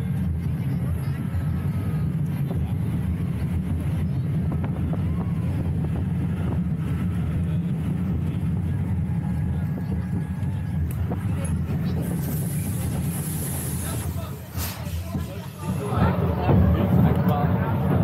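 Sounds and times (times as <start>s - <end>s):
roller coaster wheels rumbling: 0.0s - 18.0s.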